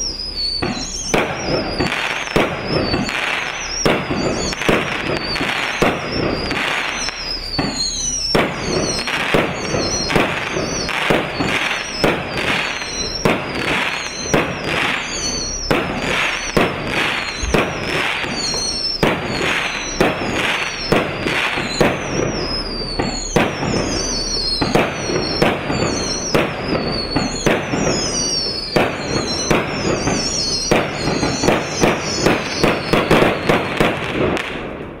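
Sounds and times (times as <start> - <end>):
high falling whistle: 0.0 - 34.1
firework cake firing: 0.0 - 35.0.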